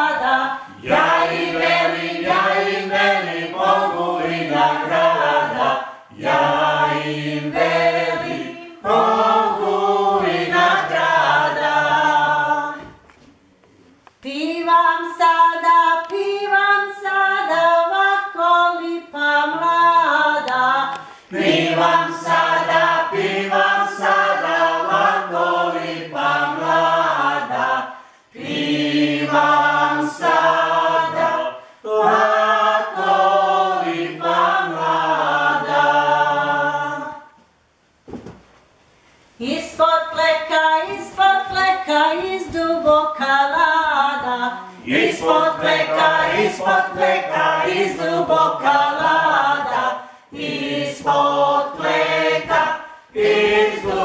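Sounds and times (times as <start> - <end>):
group singing unaccompanied: 0.0 - 13.1, 14.6 - 37.4, 39.4 - 54.0.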